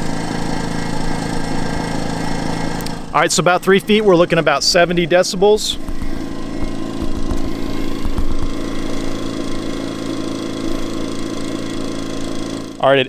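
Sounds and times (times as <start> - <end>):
generator engine hum: 0.0 - 13.0.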